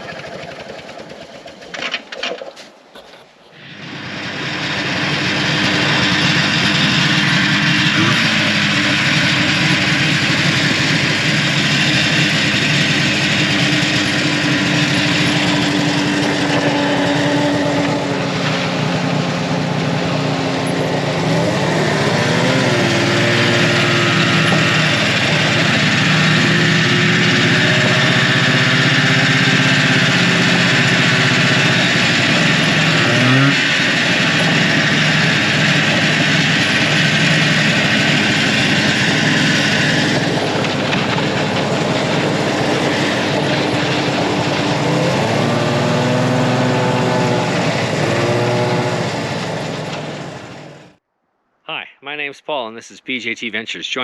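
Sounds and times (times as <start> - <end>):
vehicle engine running: 0.0 - 2.2, 3.0 - 51.0.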